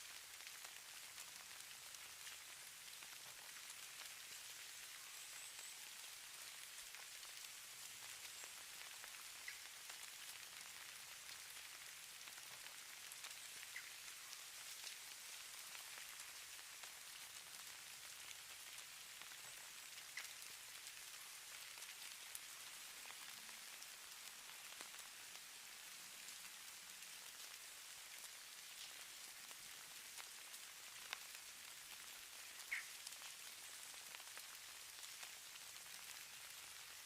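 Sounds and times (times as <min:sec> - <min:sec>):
faint soft hiss of falling snow: 0:00.0 - 0:37.0
ice grains ticking: 0:00.2 - 0:25.4, 0:28.2 - 0:37.0.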